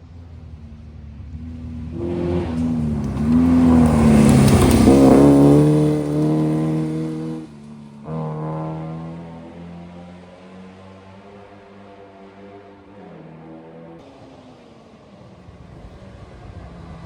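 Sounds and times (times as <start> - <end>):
rally car engine revving past: 1.2 - 17.0.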